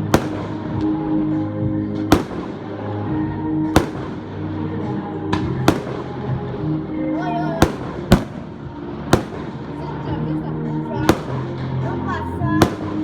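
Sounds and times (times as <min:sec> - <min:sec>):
fireworks exploding: 0:00.0 - 0:01.4, 0:02.0 - 0:13.0
music playing: 0:00.0 - 0:13.0.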